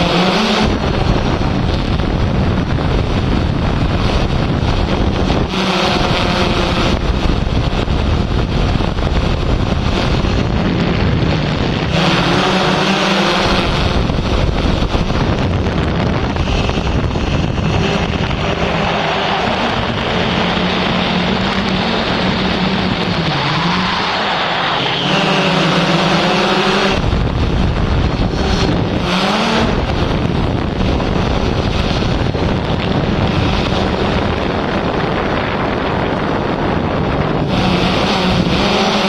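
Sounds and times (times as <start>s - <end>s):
wind buffeting microphone: 0.0s - 24.0s, 25.0s - 39.0s
drone propellers humming: 0.0s - 39.0s.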